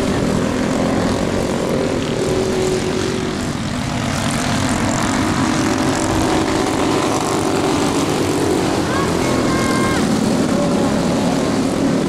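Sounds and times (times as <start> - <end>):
snowmobile engines buzzing: 0.0 - 12.0.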